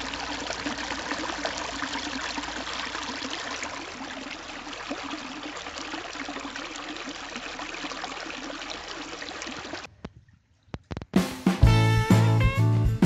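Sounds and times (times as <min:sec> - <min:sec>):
water splashing into fountain basin: 0:00.0 - 0:10.8.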